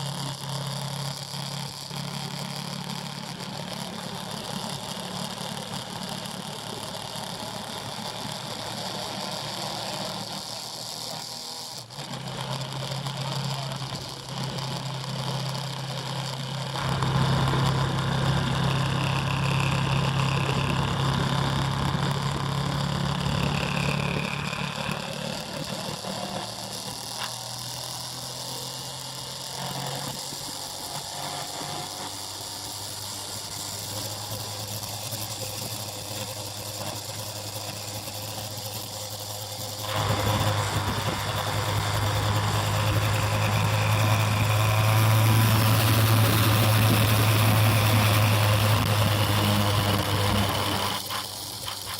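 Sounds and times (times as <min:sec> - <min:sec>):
motorbike engine running: 0:00.0 - 0:51.9.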